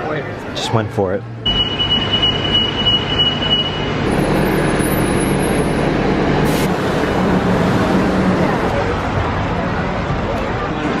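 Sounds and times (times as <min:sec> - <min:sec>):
moving vehicle hum: 0:01.2 - 0:11.0.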